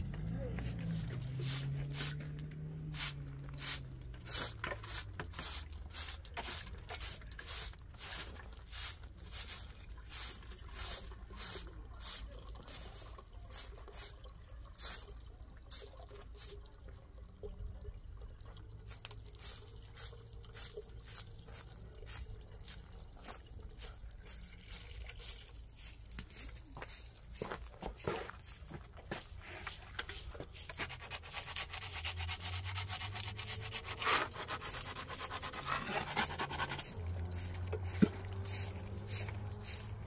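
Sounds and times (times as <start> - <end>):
broom sweeping gravel and concrete: 0.0 - 14.2, 14.8 - 15.1, 18.9 - 40.0
hose water running into bucket: 0.0 - 40.0.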